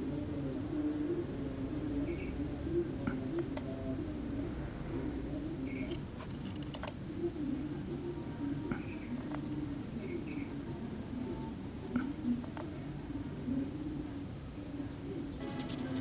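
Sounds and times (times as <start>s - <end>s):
dove cooing: 0.0s - 16.0s
small birds chirping: 0.0s - 16.0s.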